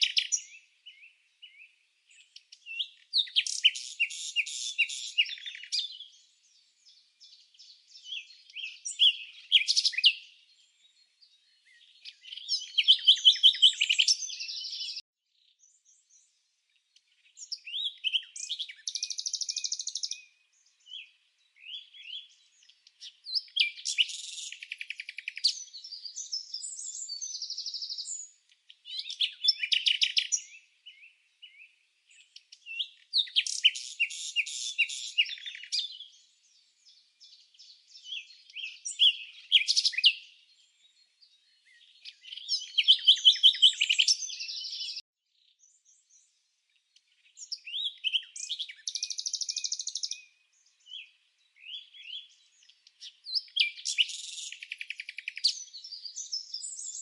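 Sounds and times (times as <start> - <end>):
songbird chirps and trills: 0.0 - 57.0.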